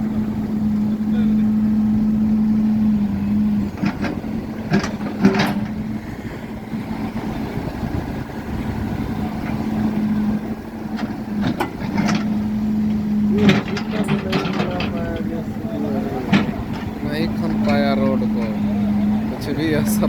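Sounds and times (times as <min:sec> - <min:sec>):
diesel engine running: 0:00.0 - 0:20.0
digger scraping road surface: 0:00.0 - 0:20.0.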